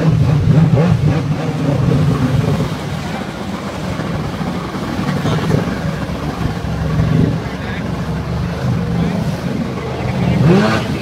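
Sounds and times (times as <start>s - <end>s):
jet ski engine revving: 0.0s - 11.0s.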